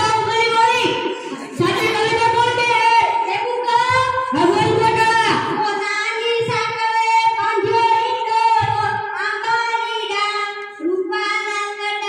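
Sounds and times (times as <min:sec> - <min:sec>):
child singing into microphone: 0:00.0 - 0:12.0.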